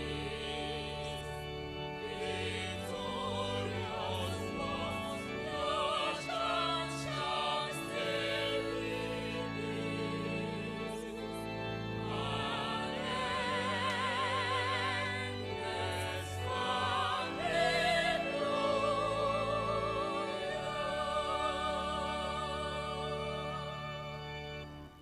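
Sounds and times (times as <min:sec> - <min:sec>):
choir and congregation singing hymn: 0:00.0 - 0:24.7.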